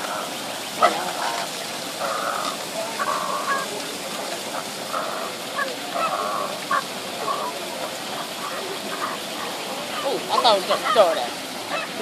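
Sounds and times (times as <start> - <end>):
birds honking calls: 0.0 - 12.0.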